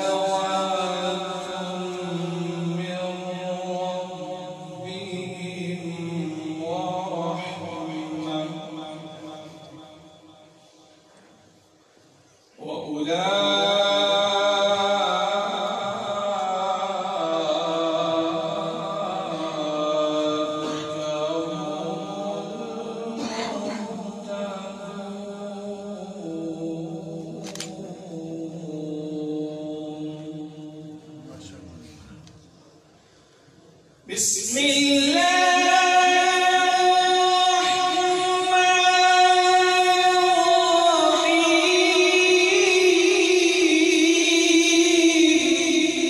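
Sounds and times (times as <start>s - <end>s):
man chanting into microphone: 0.0s - 10.9s, 12.6s - 32.5s, 34.0s - 46.0s
man reciting melodically: 0.0s - 11.5s, 12.3s - 33.0s, 33.6s - 46.0s.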